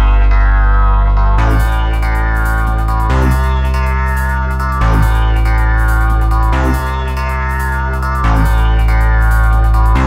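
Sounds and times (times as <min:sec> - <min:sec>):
deep bass drone: 0:00.0 - 0:10.0
synthesizer chords: 0:00.0 - 0:10.0.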